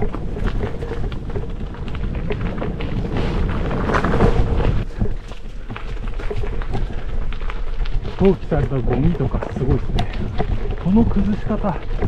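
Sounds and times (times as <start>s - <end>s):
bike tyres rolling over gravel: 0.0s - 12.0s
stones crunching and knocking: 0.0s - 12.0s.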